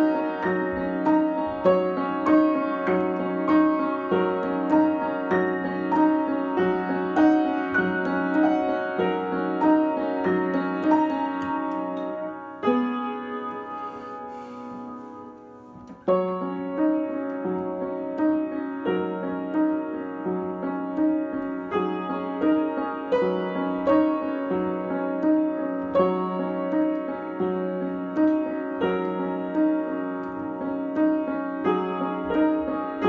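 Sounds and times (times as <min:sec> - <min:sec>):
solo piano: 0:00.0 - 0:33.0.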